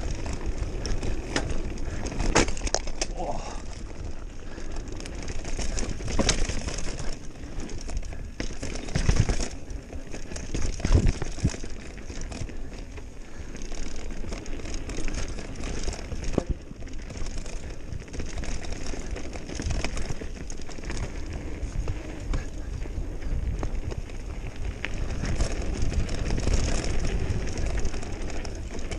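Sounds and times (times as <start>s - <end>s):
bike rattling: 0.0s - 28.9s
tyres crunching over dirt: 0.0s - 28.9s.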